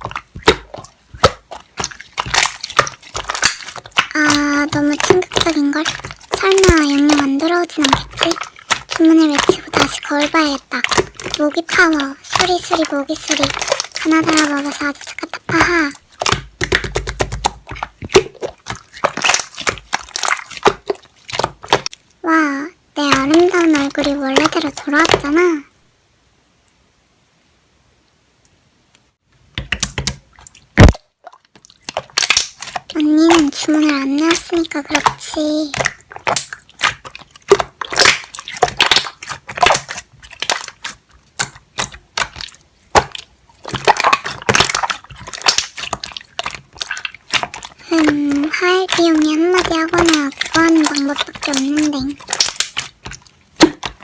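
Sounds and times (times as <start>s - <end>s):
slime squished by hand: 0.0s - 22.0s, 23.0s - 25.6s, 29.6s - 54.0s.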